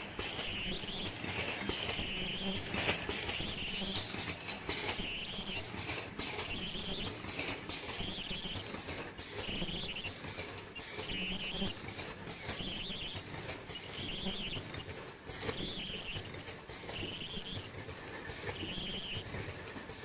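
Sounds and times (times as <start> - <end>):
high-pitched welder whines: 0.0 - 17.8, 18.4 - 19.4
machine clacks: 0.0 - 20.0
steady machine hum: 0.0 - 20.0.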